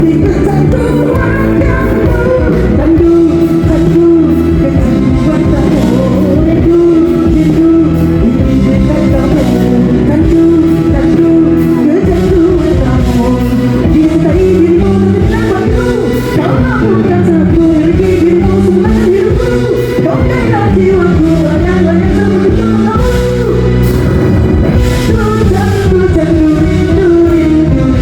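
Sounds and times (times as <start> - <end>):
instrumental accompaniment: 0.0 - 28.0.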